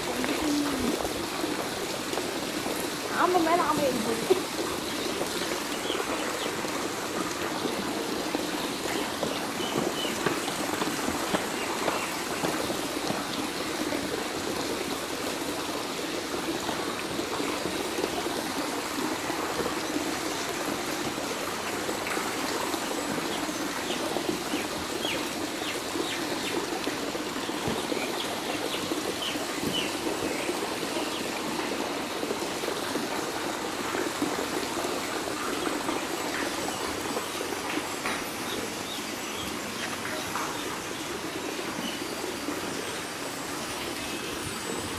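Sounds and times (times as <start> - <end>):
water trickling and splashing: 0.0 - 44.9.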